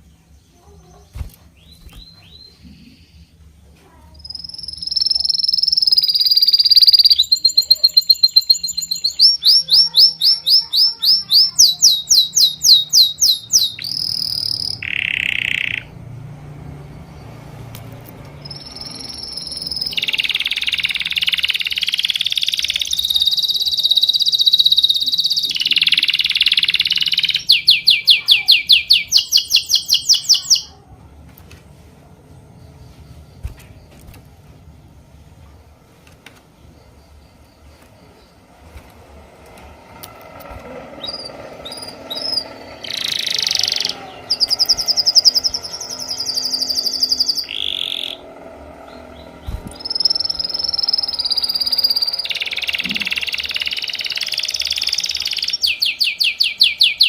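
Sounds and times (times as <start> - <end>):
birds singing trills: 0.0 - 16.1, 16.8 - 30.8, 40.6 - 57.0.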